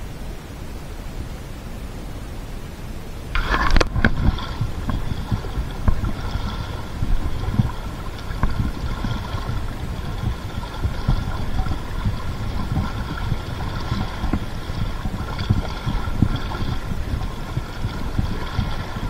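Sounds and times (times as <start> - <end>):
river rushing: 2.5 - 19.0
wind buffeting microphone: 3.2 - 19.0.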